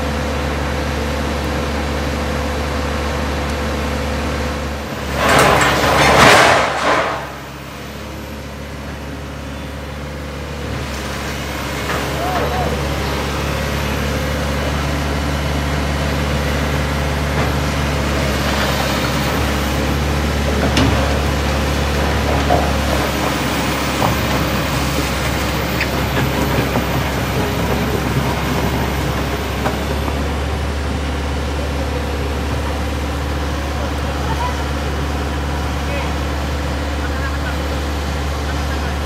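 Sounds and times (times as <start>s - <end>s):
truck engines running: 0.0s - 39.0s.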